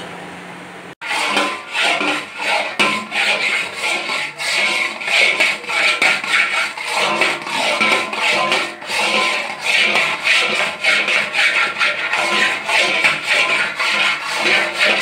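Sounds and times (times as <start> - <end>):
boiling milk hiss: 1.0 - 15.0
metal spatula scraping a pan: 1.0 - 15.0.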